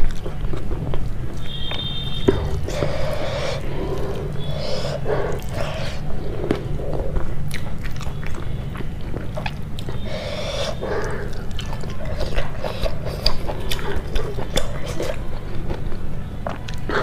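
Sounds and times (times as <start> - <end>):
chewing with wet smacks: 0.0 - 17.0
low steady hum: 0.0 - 17.0.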